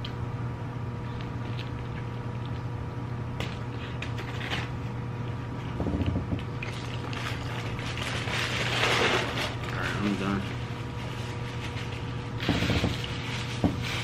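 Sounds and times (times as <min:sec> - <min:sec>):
steady low hum: 0:00.0 - 0:14.0
person eating and handling food: 0:00.8 - 0:14.0.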